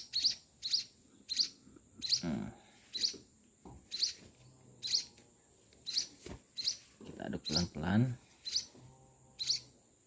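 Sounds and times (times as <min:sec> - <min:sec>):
bird chick chirping: 0:00.0 - 0:05.2, 0:05.8 - 0:08.8, 0:09.4 - 0:09.8.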